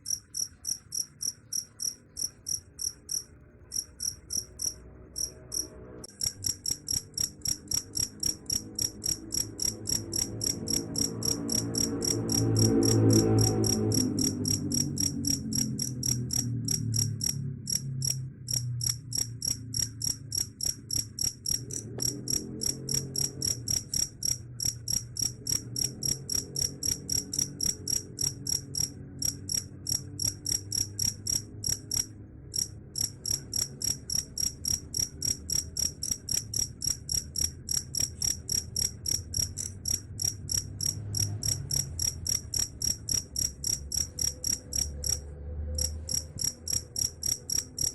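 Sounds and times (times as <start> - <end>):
cricket chirping: 0.0 - 47.9.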